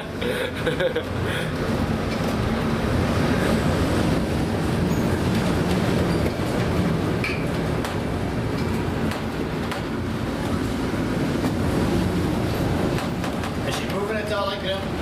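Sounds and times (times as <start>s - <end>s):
ship rumble and rushing: 0.0s - 15.0s.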